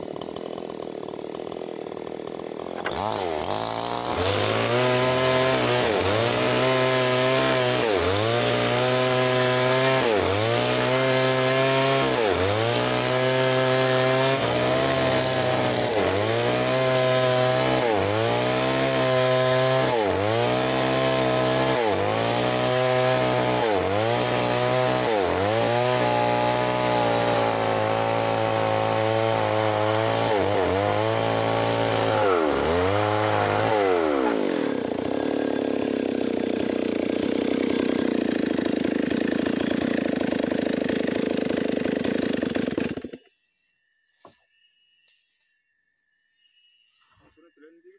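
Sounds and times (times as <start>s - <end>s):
chainsaw cutting log: 0.0s - 43.3s.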